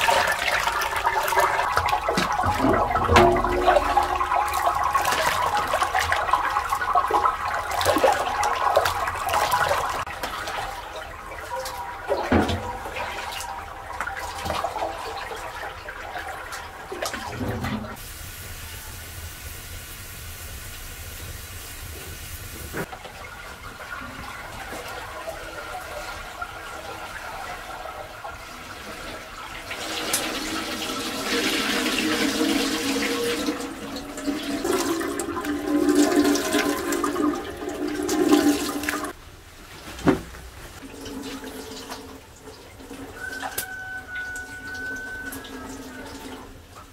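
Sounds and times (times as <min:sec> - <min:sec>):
water splashing and sloshing: 0:00.0 - 0:18.5, 0:19.5 - 0:46.9
water streaming into pot: 0:00.0 - 0:39.2, 0:40.8 - 0:46.9.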